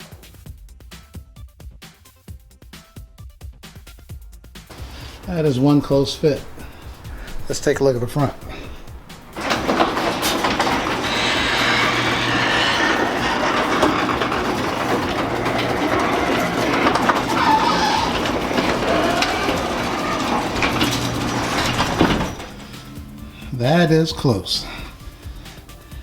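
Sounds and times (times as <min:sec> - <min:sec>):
garage door opener rattling: 0:04.7 - 0:26.0
motor hum: 0:04.7 - 0:26.0.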